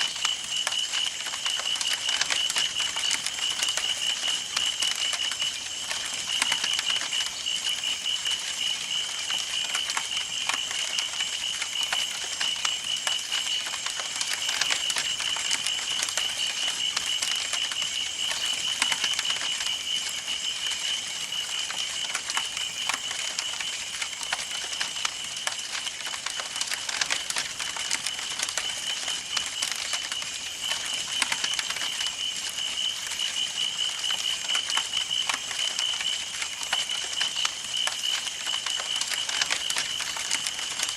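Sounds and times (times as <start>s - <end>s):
campfire wood crackling and popping: 0.0s - 40.9s.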